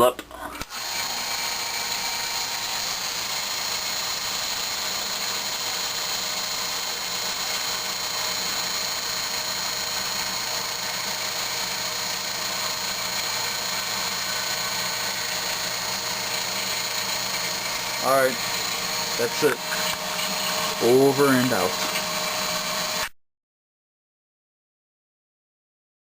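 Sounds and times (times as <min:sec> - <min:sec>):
sump pump motor whining: 0:00.6 - 0:23.1.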